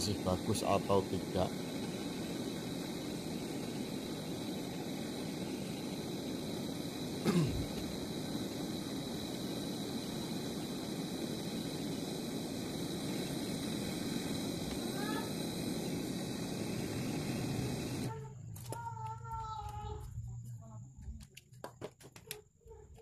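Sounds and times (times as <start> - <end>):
gas torch hissing: 0.0 - 18.8.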